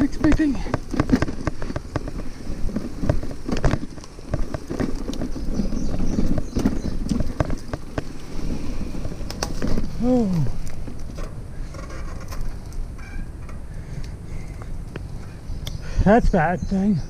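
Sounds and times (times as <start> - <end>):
bicycle knocking and rattling: 0.0 - 16.8
tyres rumbling on dirt: 0.0 - 17.0.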